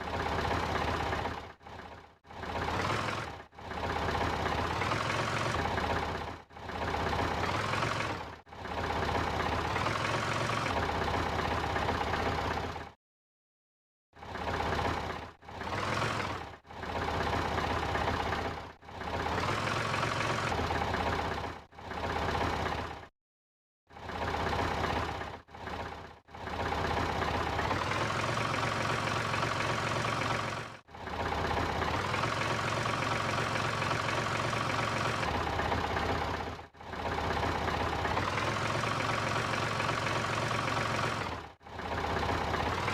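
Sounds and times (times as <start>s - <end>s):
small truck engine running: 0.0s - 13.0s, 14.2s - 23.1s, 23.9s - 42.9s.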